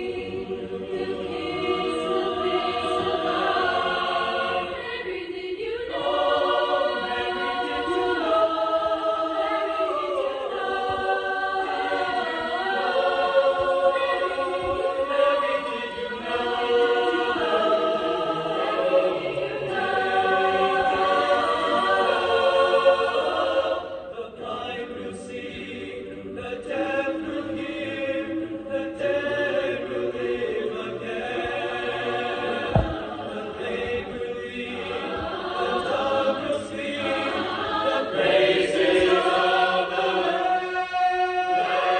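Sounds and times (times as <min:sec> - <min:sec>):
choir singing held chords: 0:00.0 - 0:41.9.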